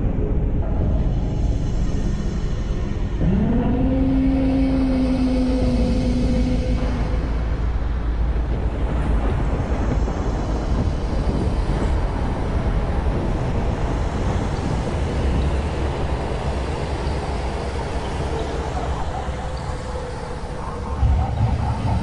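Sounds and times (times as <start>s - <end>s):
deep rumbling drone: 0.0s - 22.0s.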